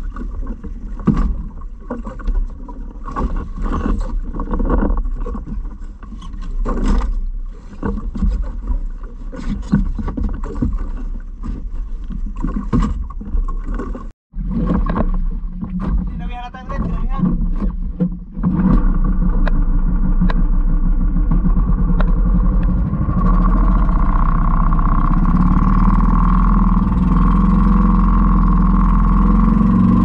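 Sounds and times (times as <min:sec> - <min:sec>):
water sloshing around boat: 0:00.0 - 0:30.0
wind rumble on microphone: 0:00.0 - 0:30.0.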